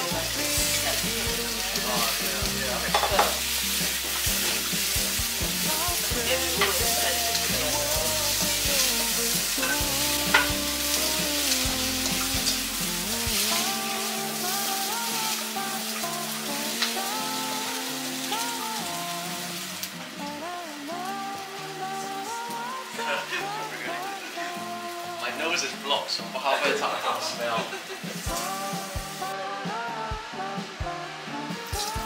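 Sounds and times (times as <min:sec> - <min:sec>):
background music: 0:00.0 - 0:32.0
vegetables sizzling in a wok: 0:00.0 - 0:32.0.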